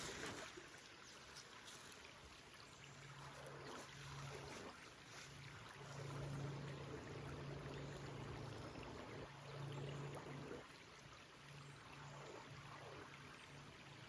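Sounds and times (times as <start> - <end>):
flowing water: 0.0 - 14.0
low steady hum: 0.0 - 14.0.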